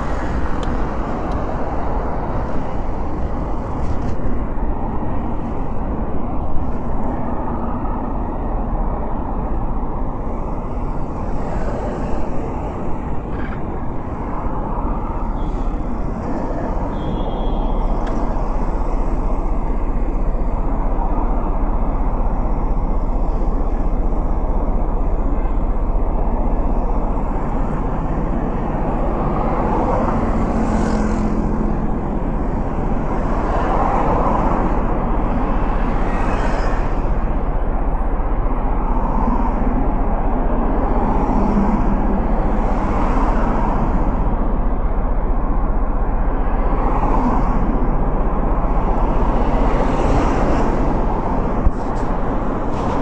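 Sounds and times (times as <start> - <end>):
cars passing: 0.0 - 53.0
low traffic rumble: 0.0 - 53.0.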